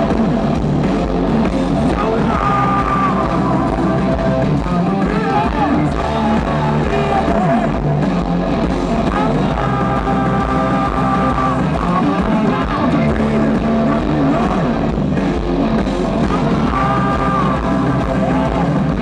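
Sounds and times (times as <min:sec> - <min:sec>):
electric guitar bending notes: 0:00.0 - 0:19.0
live rock band playing: 0:00.0 - 0:19.0.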